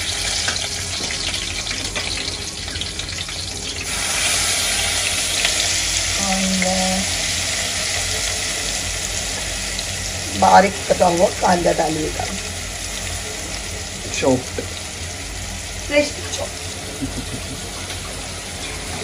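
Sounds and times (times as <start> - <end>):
hot oil sizzling: 0.0 - 19.0
onion frying: 0.0 - 19.0.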